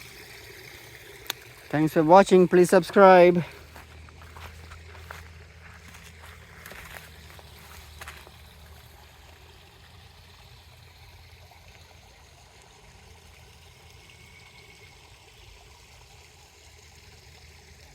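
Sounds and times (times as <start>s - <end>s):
water trickling: 0.0s - 17.9s.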